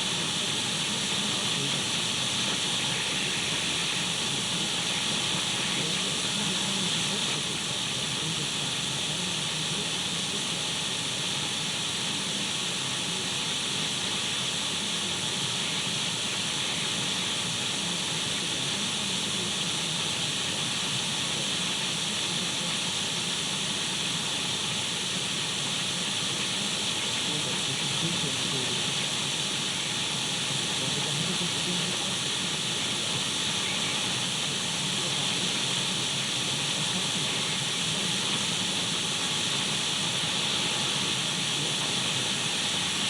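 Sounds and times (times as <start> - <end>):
radio static hiss: 0.0 - 43.0.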